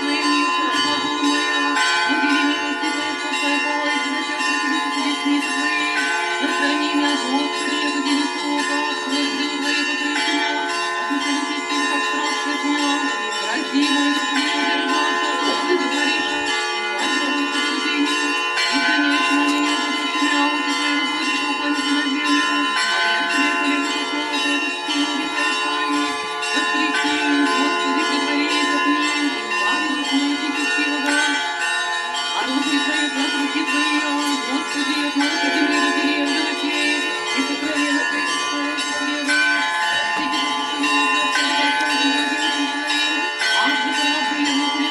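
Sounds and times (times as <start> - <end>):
church bells pealing: 0.0 - 44.9.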